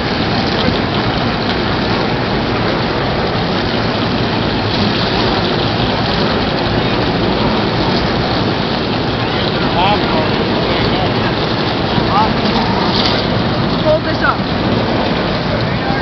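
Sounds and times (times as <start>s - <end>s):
stock car engines roaring: 0.0s - 16.0s.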